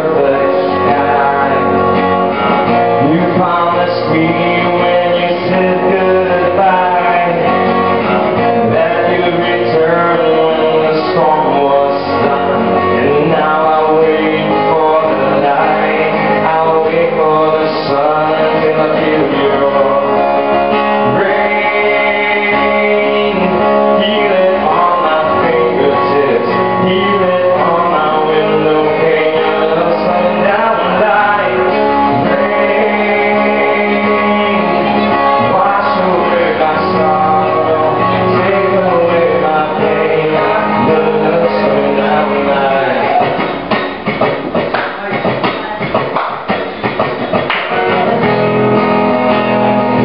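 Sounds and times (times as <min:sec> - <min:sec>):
acoustic guitar playing: 0:00.0 - 0:50.0
man singing: 0:00.0 - 0:50.0.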